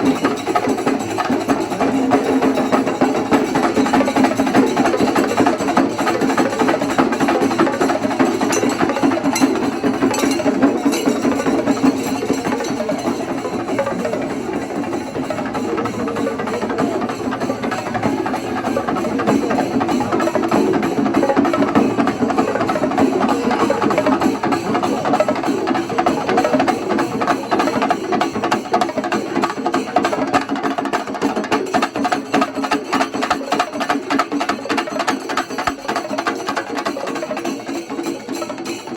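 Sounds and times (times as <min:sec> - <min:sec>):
drums in fast dense rhythm: 0:00.0 - 0:38.9.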